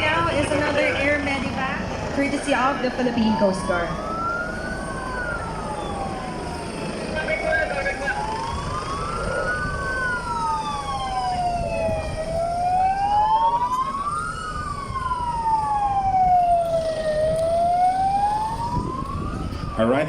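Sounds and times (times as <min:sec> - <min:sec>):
emergency vehicle siren wailing: 0:00.0 - 0:20.0.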